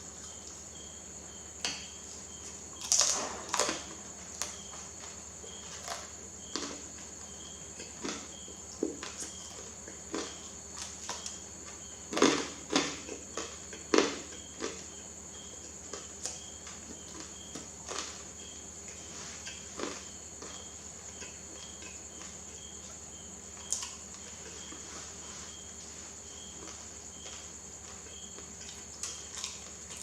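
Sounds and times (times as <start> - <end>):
wet chewing sounds: 2.4 - 30.0.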